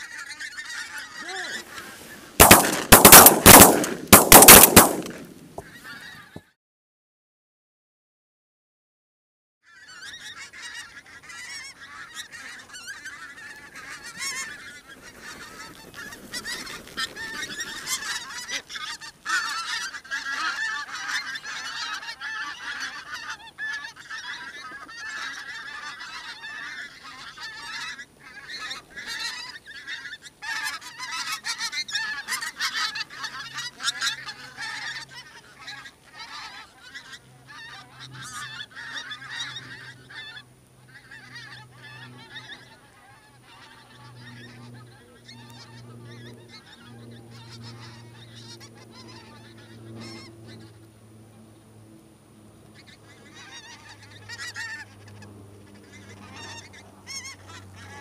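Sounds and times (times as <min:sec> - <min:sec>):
geese calling: 0:00.0 - 0:06.4, 0:09.7 - 0:58.0.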